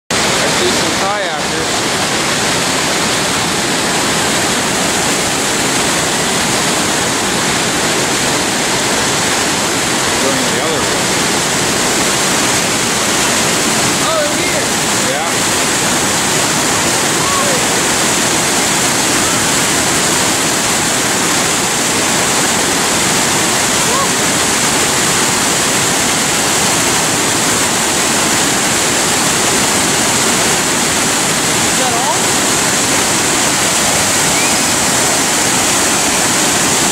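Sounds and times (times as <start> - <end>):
whitewater rushing over rocks: 0.1 - 36.9.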